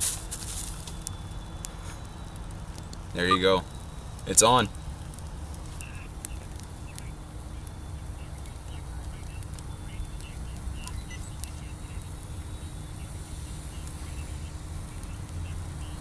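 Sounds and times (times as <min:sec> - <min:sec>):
charcoal crackling and popping: 0:00.0 - 0:16.0
low steady rumble: 0:00.0 - 0:16.0.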